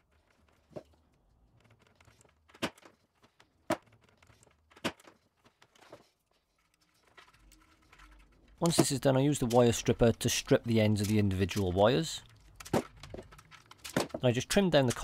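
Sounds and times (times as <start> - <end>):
faint rustling of wire: 0.0 - 15.0.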